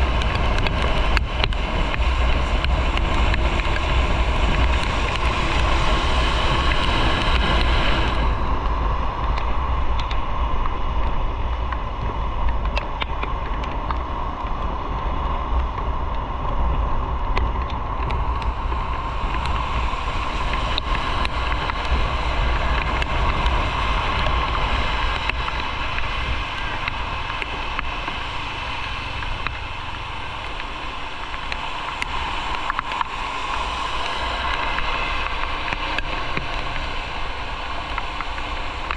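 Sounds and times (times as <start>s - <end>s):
motorcycle engine rumble: 0.0s - 38.9s
road noise: 0.0s - 38.9s
wind rushing on microphone: 0.0s - 38.9s.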